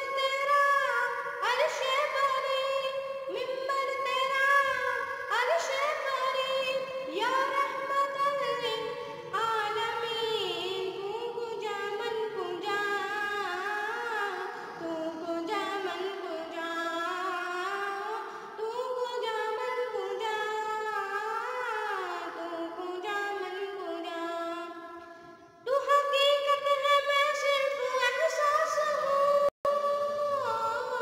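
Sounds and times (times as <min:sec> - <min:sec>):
boy singing unaccompanied: 0:01.5 - 0:24.8, 0:25.7 - 0:31.0.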